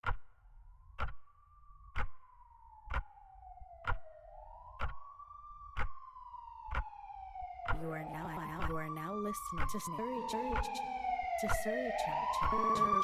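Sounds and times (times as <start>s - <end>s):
siren wail: 0.5s - 13.0s.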